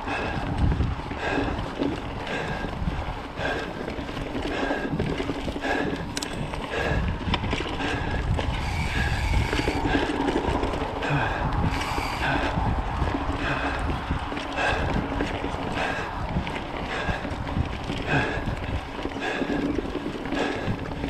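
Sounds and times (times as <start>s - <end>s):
bike rattling: 0.0s - 21.0s
tyre rumble on dirt trail: 0.0s - 21.0s
wind noise on microphone: 0.0s - 21.0s.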